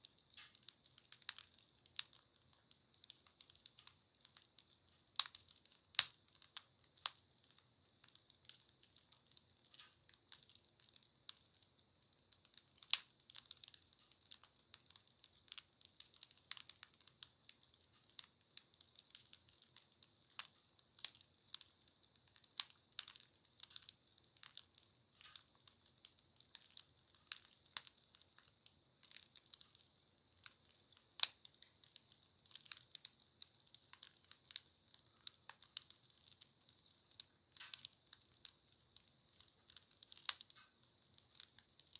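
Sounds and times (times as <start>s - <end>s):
campfire crackling and popping: 0.0s - 41.9s
faint steady hiss: 0.0s - 41.9s.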